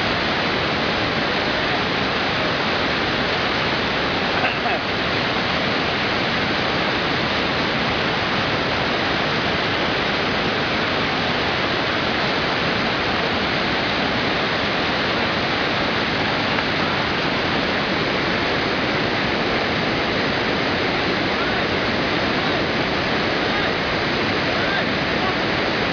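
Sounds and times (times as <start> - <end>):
fast-flowing water rushing: 0.0 - 25.9.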